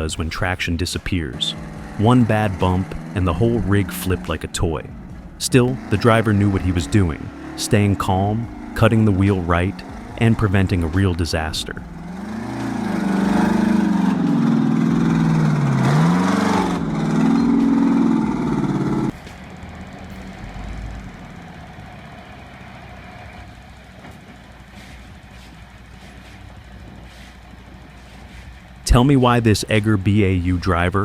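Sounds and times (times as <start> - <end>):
heavy truck engine revving: 0.0 - 31.0.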